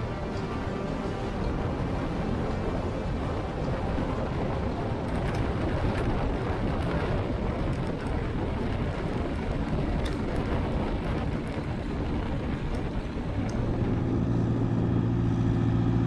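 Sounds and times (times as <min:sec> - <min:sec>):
light aircraft engine and propeller: 0:00.0 - 0:16.0.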